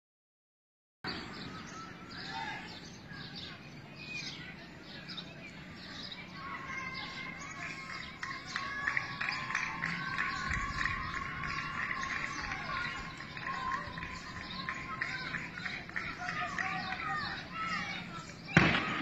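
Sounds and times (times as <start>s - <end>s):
birds chirping: 1.1s - 19.0s.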